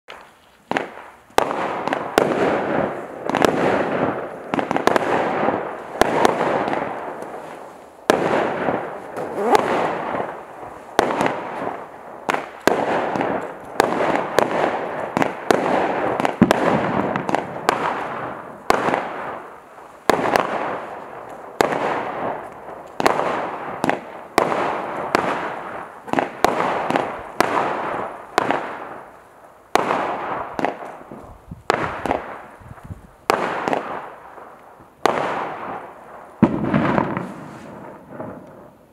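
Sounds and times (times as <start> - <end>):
firework cake shots: 0.1 - 29.1, 29.8 - 38.8
noisy firework tail: 0.1 - 38.9.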